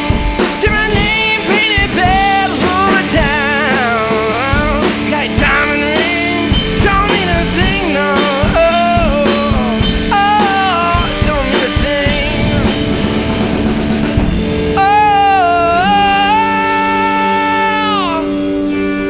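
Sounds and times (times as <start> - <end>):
drum kit hits: 0.0 - 18.3
electric guitar lead line: 0.0 - 19.0.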